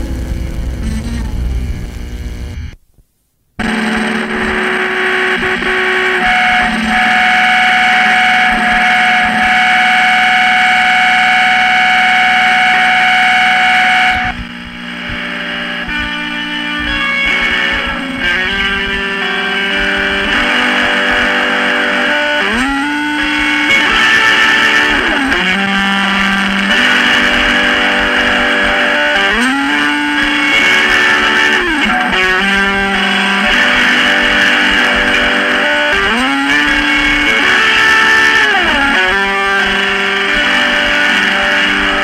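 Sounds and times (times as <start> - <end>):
fuzzy electric guitar chords: 0.0 - 2.8, 3.6 - 42.0.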